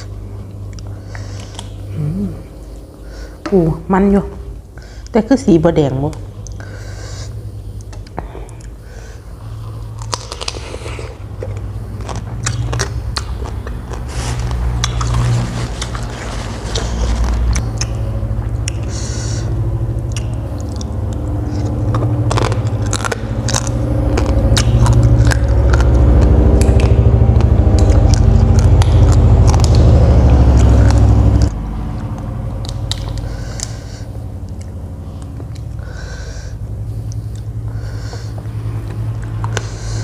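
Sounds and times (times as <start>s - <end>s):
chewing and crunching food: 0.0s - 3.4s, 6.1s - 40.0s
loud low engine-like hum: 0.0s - 40.0s.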